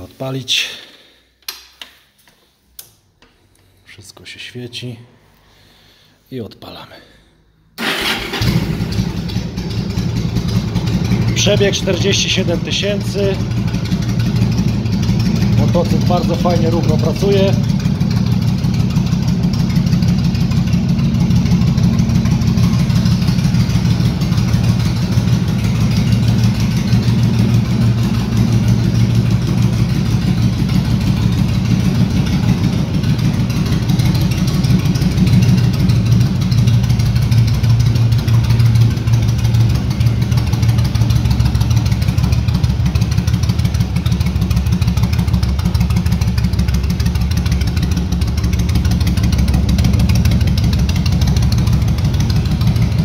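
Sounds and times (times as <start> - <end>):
motorcycle engine idling: 7.8 - 53.0.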